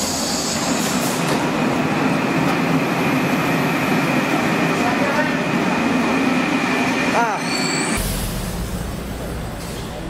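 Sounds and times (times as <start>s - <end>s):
metro train rumbling with whine: 0.0s - 10.0s.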